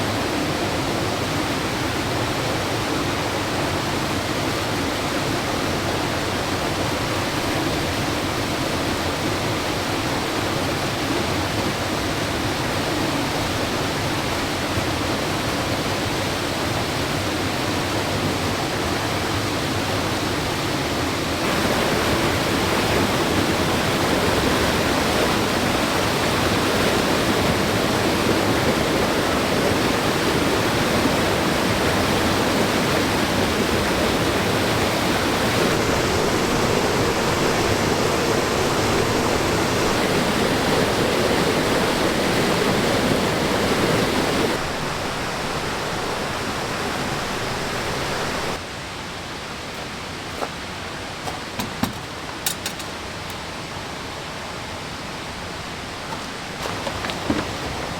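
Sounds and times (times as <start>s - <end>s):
rushing water of waterfall: 0.0s - 57.9s.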